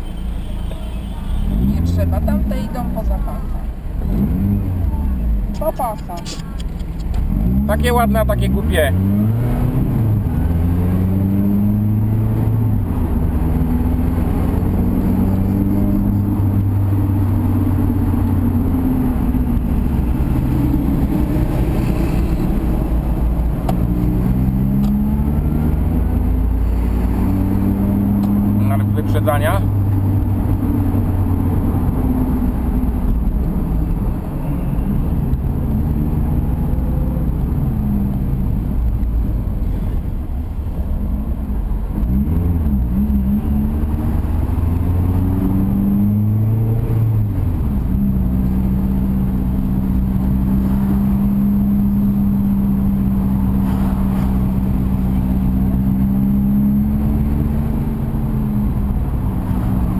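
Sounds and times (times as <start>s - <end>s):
car engine from inside cabin: 1.5s - 59.9s.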